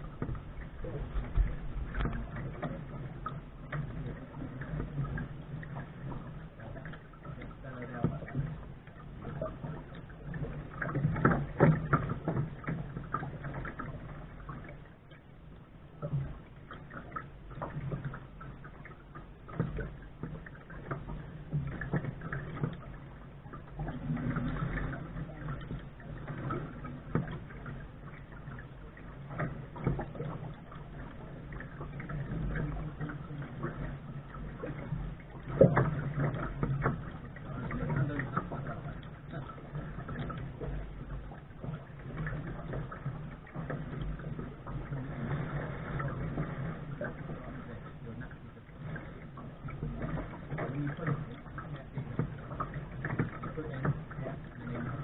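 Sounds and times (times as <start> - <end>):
water slapping against boat bow: 0.0 - 55.0.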